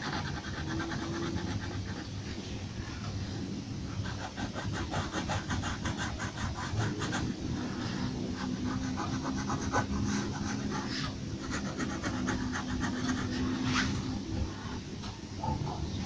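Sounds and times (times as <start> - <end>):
pencil scratching on paper: 0.0 - 2.3, 3.9 - 14.8
steady low hum: 0.0 - 16.0.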